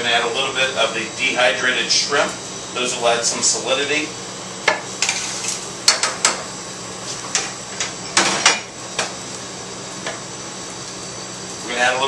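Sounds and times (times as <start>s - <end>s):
ventilation hum: 0.0s - 12.0s.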